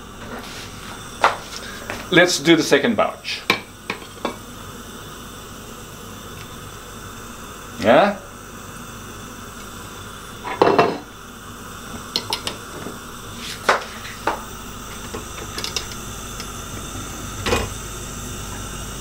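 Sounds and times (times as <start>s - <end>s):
water boiling in pot: 0.0s - 19.0s.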